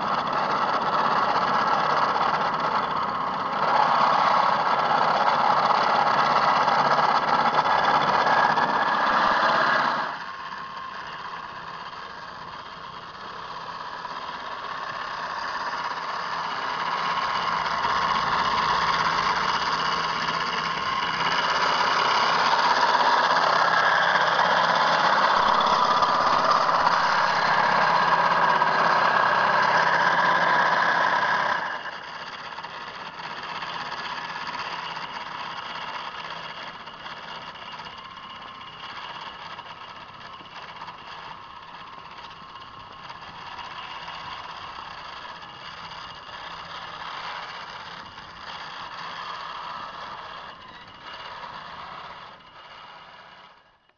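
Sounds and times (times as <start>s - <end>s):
electric snow thrower motor whine: 0.0s - 53.9s.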